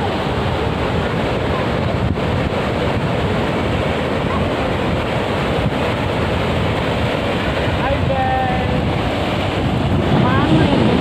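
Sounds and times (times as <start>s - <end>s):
ocean surf washing onto beach: 0.0s - 11.0s
wind on microphone: 0.0s - 11.0s.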